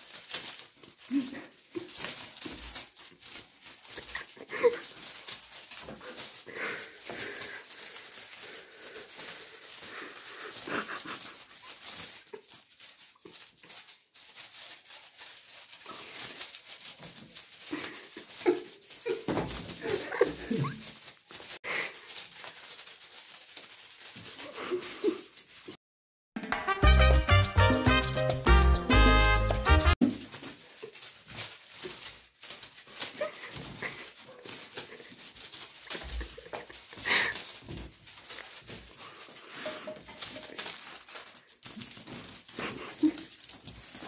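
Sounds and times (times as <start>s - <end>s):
rustling and scrabbling: 0.0s - 25.8s, 27.2s - 44.0s.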